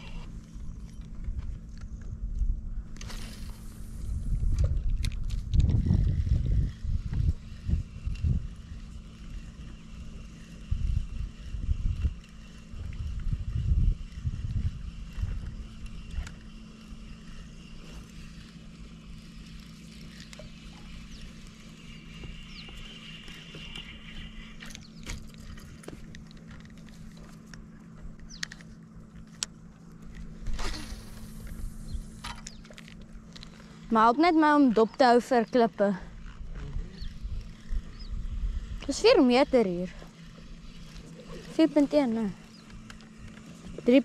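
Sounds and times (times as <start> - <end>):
electric boat motor humming: 0.0 - 44.0.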